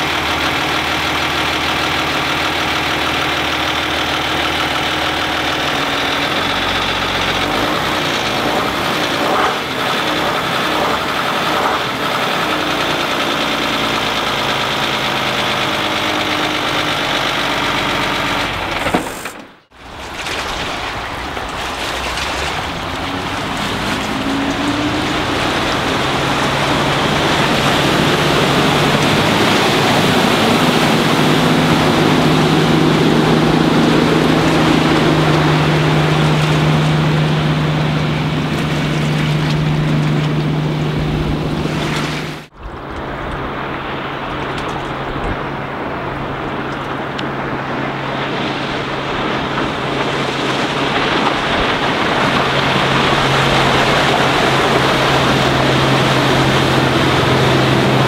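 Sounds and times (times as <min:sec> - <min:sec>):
boat diesel engine drone: 0:00.0 - 0:58.0
rushing water: 0:00.0 - 0:58.0.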